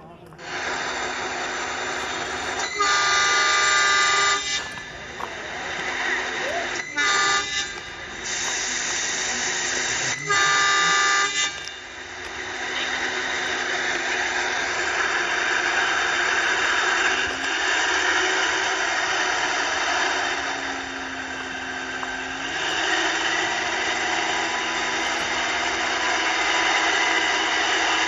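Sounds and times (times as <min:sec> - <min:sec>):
train coaches rumbling on track: 0:00.0 - 0:28.0
diesel locomotive horn blasts: 0:00.4 - 0:28.0.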